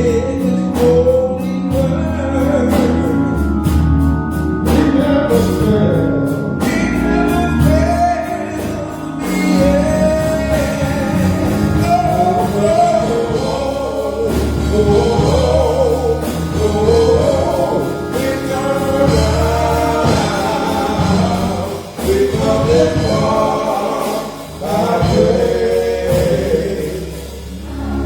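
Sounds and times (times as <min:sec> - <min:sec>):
gospel choir singing: 0:00.0 - 0:28.0
steady bass: 0:00.0 - 0:28.0.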